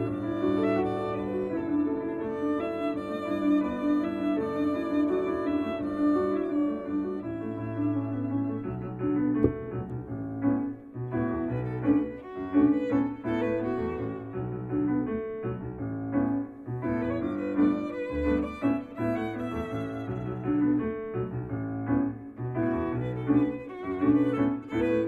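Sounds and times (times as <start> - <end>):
violin melody: 0.0 - 10.0, 11.1 - 15.2, 16.7 - 21.3, 22.6 - 25.0
piano accompaniment: 0.0 - 25.0.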